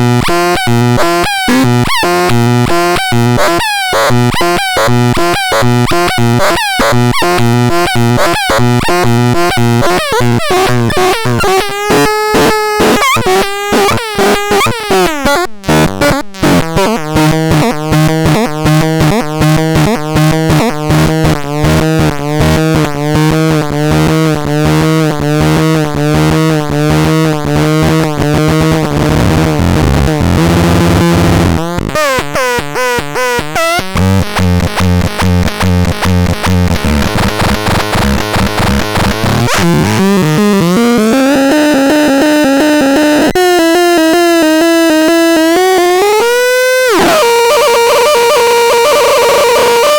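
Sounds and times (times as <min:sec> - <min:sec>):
synthesizer bass note: 0:00.0 - 0:15.1, 0:16.8 - 0:49.9
synthesizer repeated notes: 0:00.0 - 0:49.9.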